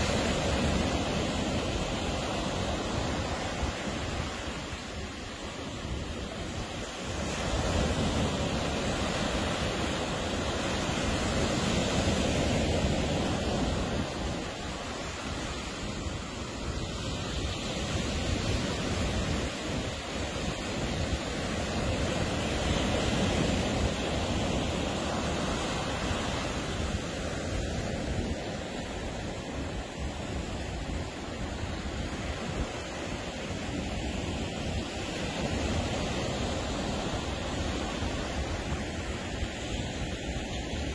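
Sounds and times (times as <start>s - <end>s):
ocean surf breaking on a beach: 0.0s - 40.9s.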